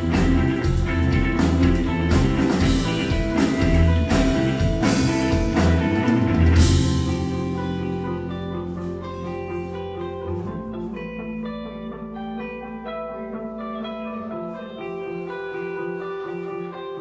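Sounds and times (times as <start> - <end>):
post-rock band playing live: 0.0 - 17.0.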